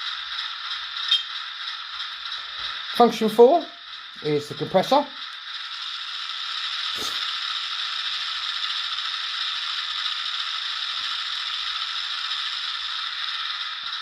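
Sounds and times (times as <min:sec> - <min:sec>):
rattling mechanical hiss from speaker: 0:00.0 - 0:14.0.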